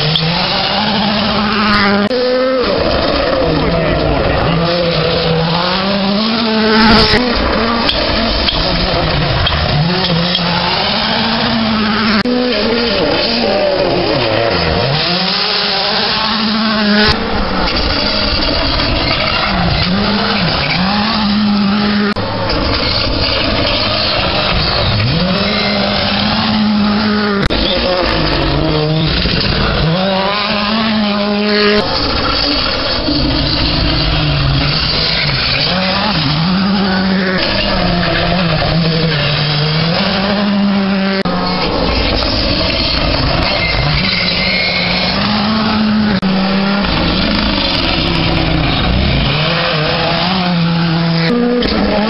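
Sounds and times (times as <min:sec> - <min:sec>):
rally car engine at full throttle: 0:00.0 - 0:52.0.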